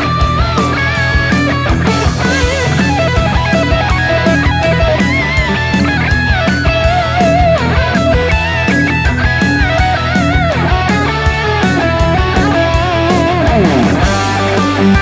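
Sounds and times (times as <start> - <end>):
bass: 0.0 - 15.0
drum beat: 0.0 - 15.0
overdriven electric guitar solo: 0.0 - 15.0.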